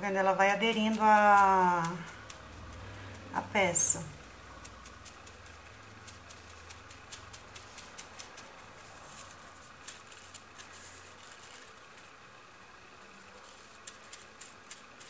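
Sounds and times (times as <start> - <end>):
brush tapping and crinkling leaf: 0.0 - 12.4, 13.1 - 15.0
low steady hum: 0.0 - 15.0.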